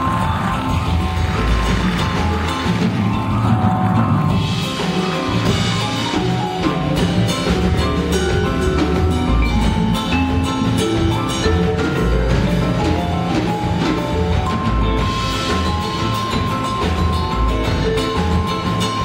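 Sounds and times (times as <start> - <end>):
drum kit groove: 0.0 - 19.0
jazz fusion band playing: 0.0 - 19.0
vibraphone: 0.0 - 19.0.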